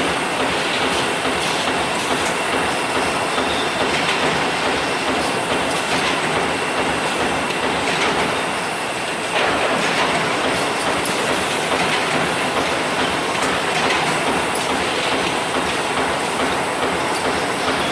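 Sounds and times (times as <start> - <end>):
bag making machine running: 0.0 - 17.9
repeated machine ticks: 0.4 - 8.5, 9.8 - 17.9.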